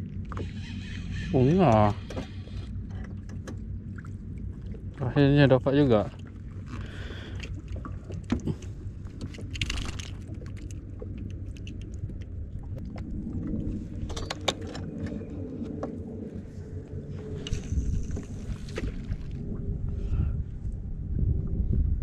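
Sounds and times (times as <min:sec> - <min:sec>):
wind and water rumble: 0:00.0 - 0:22.0.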